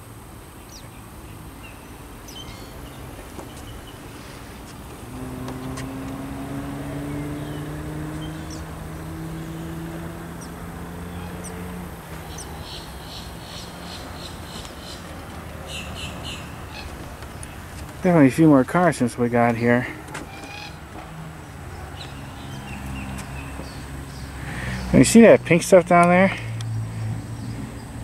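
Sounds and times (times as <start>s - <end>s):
birds chirping: 0.0s - 28.0s
engine hum: 0.0s - 28.0s.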